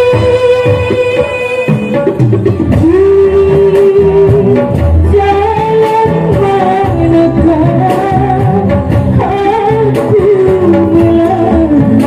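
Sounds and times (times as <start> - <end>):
backing music with steady beat: 0.0 - 12.0
woman singing into microphone: 0.0 - 12.0.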